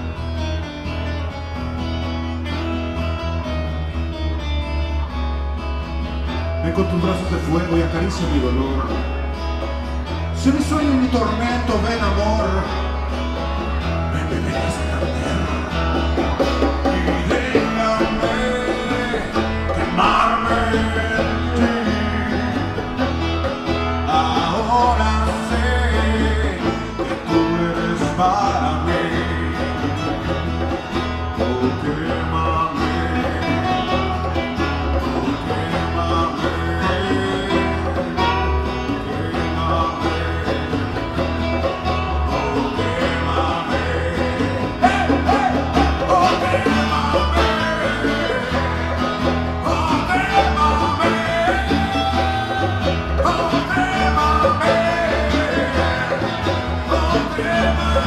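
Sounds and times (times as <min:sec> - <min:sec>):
acoustic rock band playing: 0:00.0 - 0:58.0.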